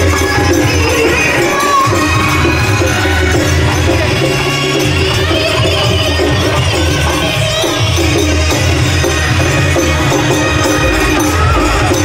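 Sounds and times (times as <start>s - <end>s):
percussion: 0.0s - 12.0s.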